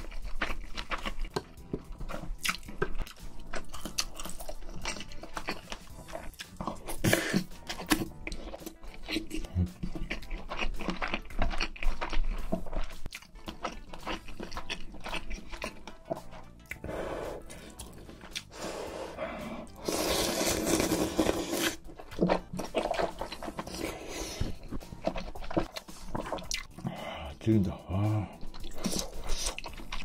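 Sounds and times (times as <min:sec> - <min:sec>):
crunchy chewing: 0:00.0 - 0:27.2, 0:28.3 - 0:30.0
slurping noodles: 0:00.6 - 0:12.6, 0:13.5 - 0:27.1, 0:28.6 - 0:30.0.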